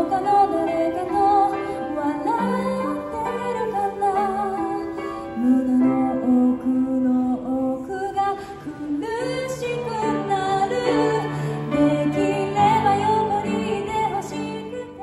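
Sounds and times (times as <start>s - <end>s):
grand piano: 0.0s - 15.0s
woman singing: 0.0s - 15.0s.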